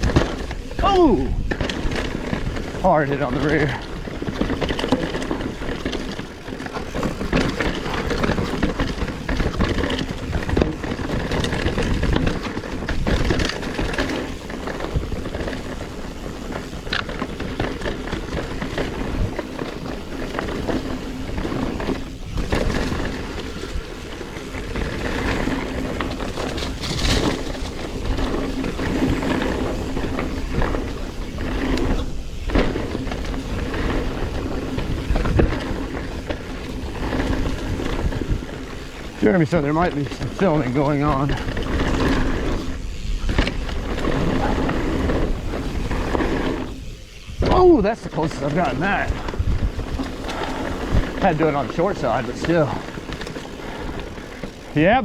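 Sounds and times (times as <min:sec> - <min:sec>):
wind on microphone: 0:00.0 - 0:02.8, 0:03.6 - 0:55.0
bike rattling: 0:00.0 - 0:55.0
bike tyres rolling over dirt: 0:00.0 - 0:55.0.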